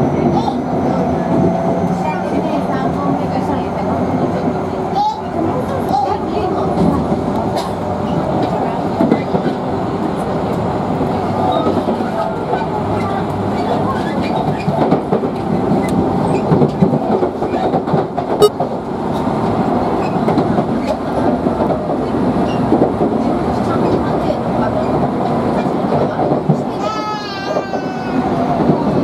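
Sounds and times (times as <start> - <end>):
electric train rumble: 0.0 - 29.0.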